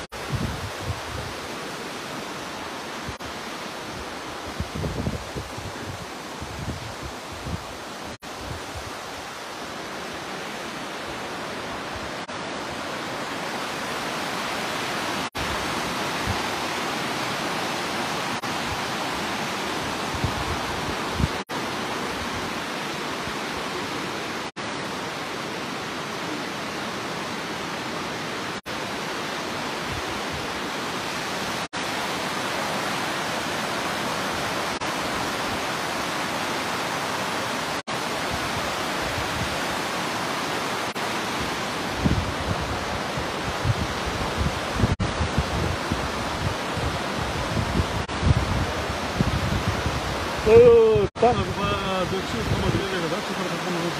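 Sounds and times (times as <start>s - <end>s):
river rushing: 0.0s - 53.9s.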